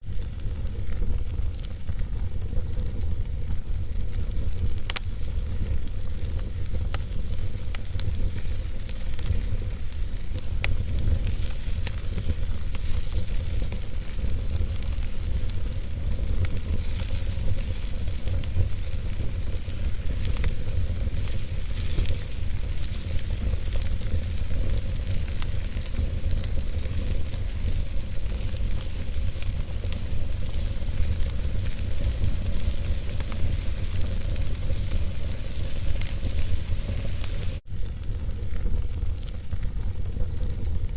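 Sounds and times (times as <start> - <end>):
low fire rumble: 0.0 - 40.9
sharp fire pops: 0.0 - 40.9
wood fire crackling: 0.0 - 40.9.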